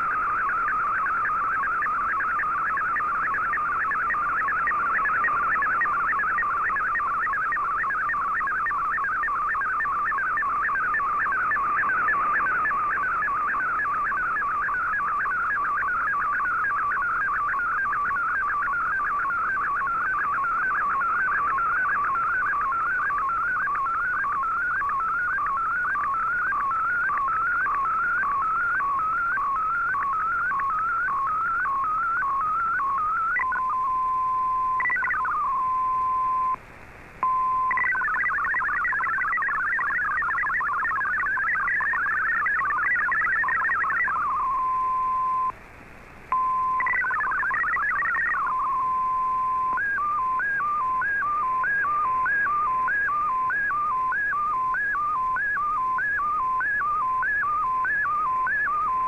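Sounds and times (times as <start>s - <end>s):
steady radio tone: 0.0s - 36.6s, 37.2s - 45.6s, 46.3s - 59.0s
warbling radio tones: 0.0s - 36.6s, 37.2s - 45.6s, 46.3s - 59.0s.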